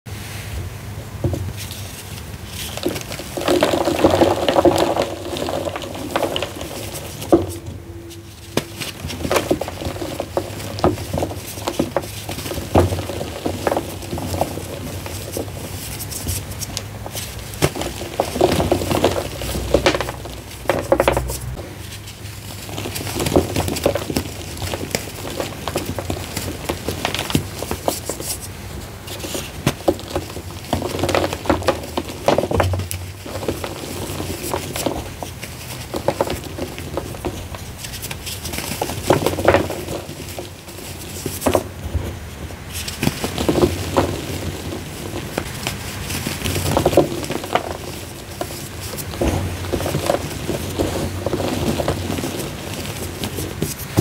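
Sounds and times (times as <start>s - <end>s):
chalk blocks crunching in hands: 1.4s - 54.0s.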